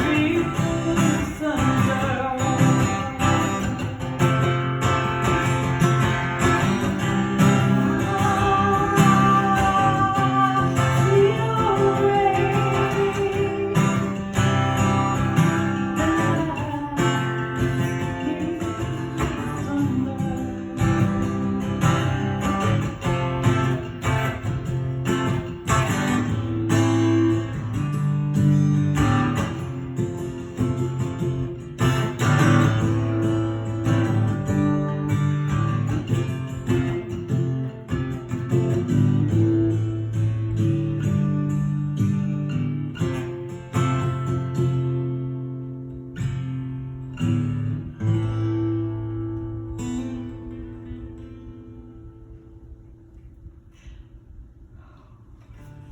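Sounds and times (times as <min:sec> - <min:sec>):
guitar playing: 0:00.0 - 0:53.7.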